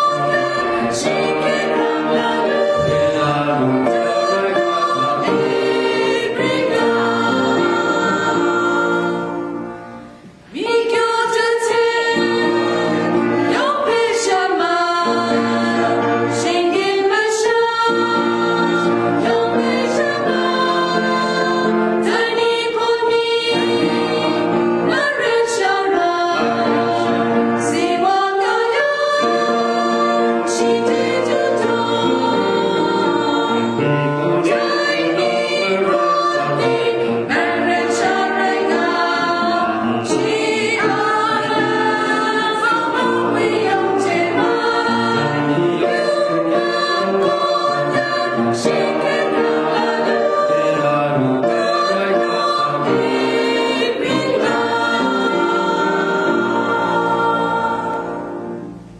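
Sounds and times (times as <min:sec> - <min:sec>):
mixed choir singing: 0:00.0 - 0:58.9.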